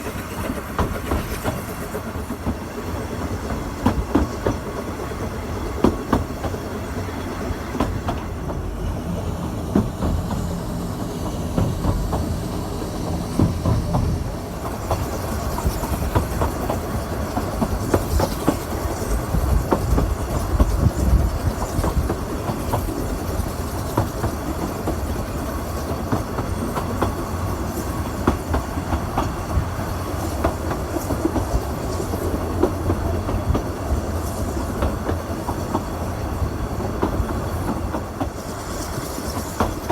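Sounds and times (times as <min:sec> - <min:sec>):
train rumbling along track: 0:00.0 - 0:39.9
train wheels clicking over rails: 0:00.0 - 0:39.9.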